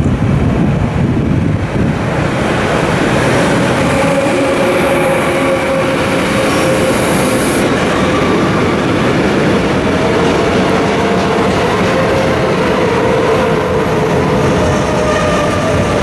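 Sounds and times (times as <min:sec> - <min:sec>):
electric locomotive passing: 0:00.0 - 0:16.0
wheels rolling on rail: 0:00.0 - 0:16.0.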